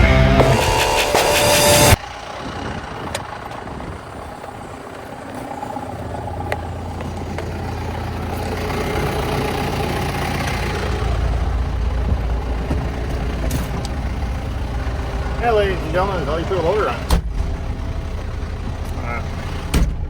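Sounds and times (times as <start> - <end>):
tractor diesel engine droning: 0.0 - 20.0.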